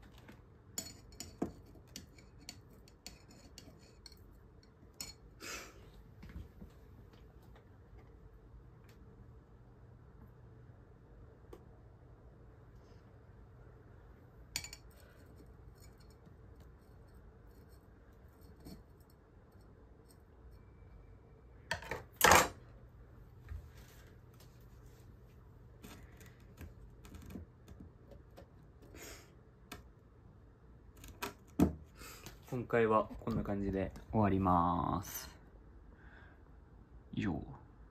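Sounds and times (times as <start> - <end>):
faint steady low hum: 0.0 - 37.9.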